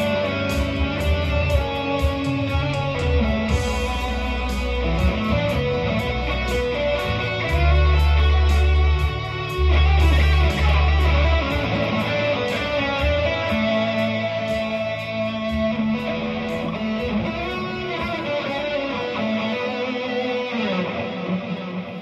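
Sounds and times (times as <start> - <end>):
deep bass notes: 0.0 - 20.1
electric guitar lead lines: 0.0 - 22.0.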